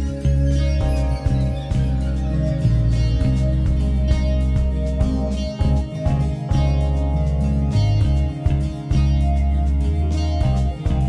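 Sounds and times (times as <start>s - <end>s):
low bass line: 0.0s - 11.0s
plucked guitar-like notes: 0.0s - 11.0s.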